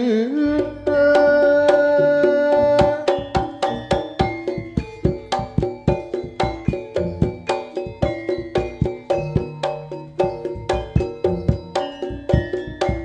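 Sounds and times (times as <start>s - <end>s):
struck pitched percussion: 0.5s - 13.0s
hand drums beating: 0.6s - 13.0s.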